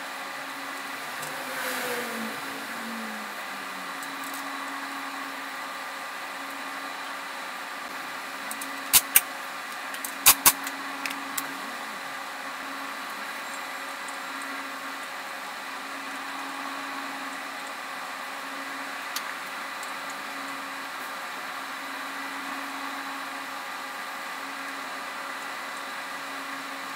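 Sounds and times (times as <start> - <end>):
steady motor hum: 0.0 - 26.9.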